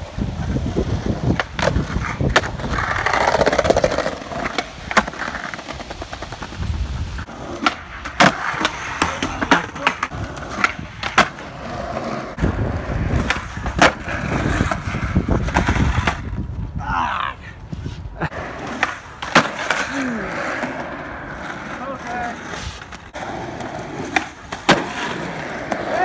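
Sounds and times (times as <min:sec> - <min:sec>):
skateboard popping and landing: 0:00.0 - 0:16.5, 0:18.3 - 0:26.0
skateboard wheels rolling: 0:00.0 - 0:26.0.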